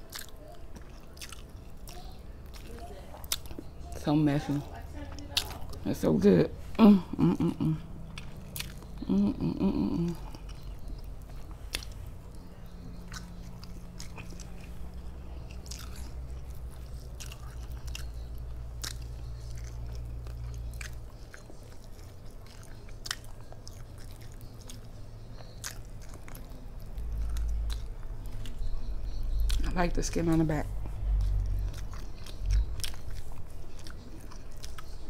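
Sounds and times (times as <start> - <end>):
chewing mouth sounds: 0.0 - 5.8, 7.1 - 29.8, 30.4 - 35.0.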